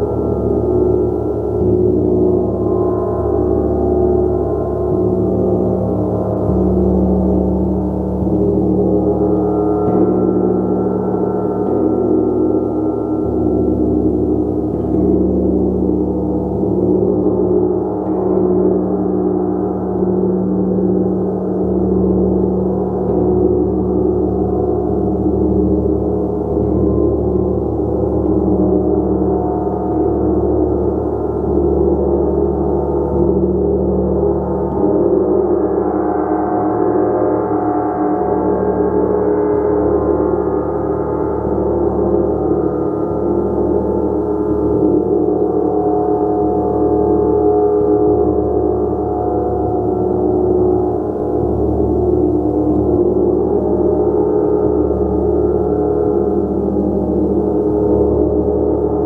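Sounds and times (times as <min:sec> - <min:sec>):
gong strokes: 0:00.0 - 0:59.0.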